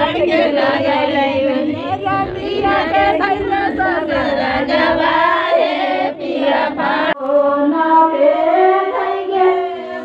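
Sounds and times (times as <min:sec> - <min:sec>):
women singing folk song: 0:00.0 - 0:10.0.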